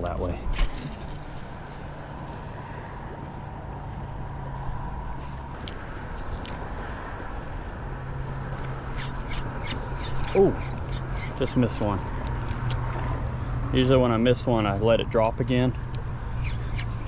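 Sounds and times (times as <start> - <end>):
low hum: 0.0 - 17.0
wind: 0.0 - 17.0.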